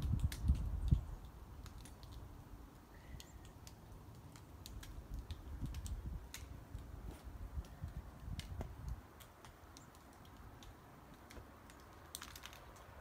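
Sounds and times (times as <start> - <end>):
pine cones clicking open: 0.0 - 13.0.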